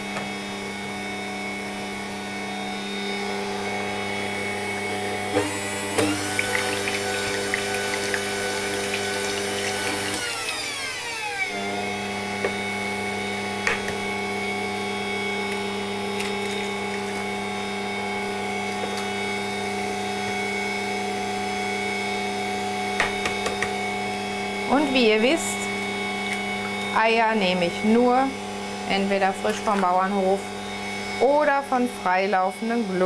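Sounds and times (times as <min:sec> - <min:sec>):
stand mixer whisking batter: 0:04.7 - 0:33.0.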